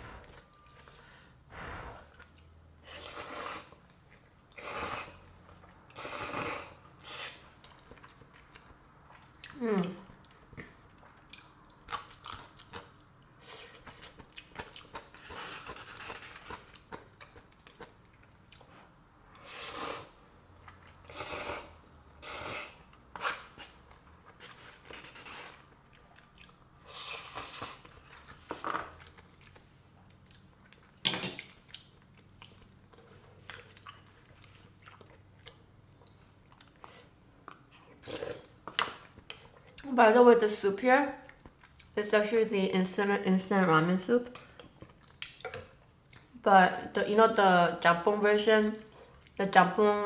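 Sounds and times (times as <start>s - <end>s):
person chewing noodles: 2.0s - 39.9s, 41.2s - 42.0s, 44.5s - 46.4s.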